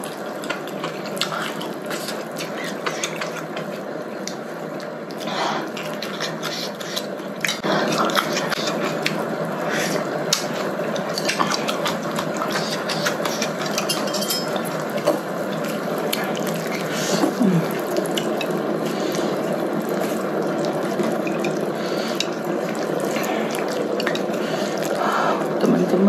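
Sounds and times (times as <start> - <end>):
eating sounds: 0.0 - 26.0.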